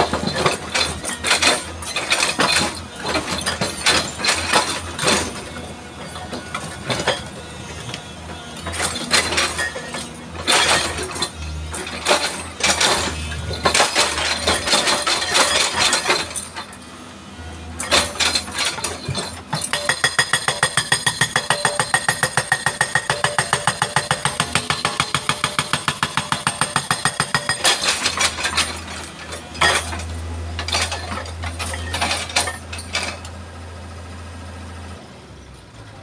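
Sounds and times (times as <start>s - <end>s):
hydraulic rock breaker pounding: 0.0s - 16.8s, 17.8s - 33.3s.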